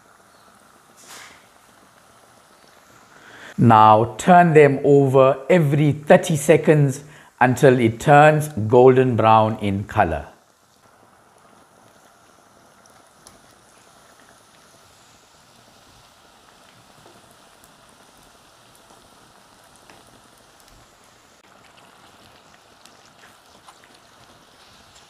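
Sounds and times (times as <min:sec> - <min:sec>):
hot oil sizzling in a pan: 0:00.0 - 0:25.0.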